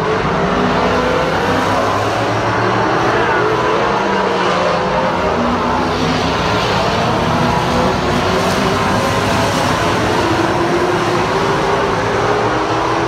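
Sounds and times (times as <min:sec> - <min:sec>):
stock car engines racing: 0:00.0 - 0:13.0.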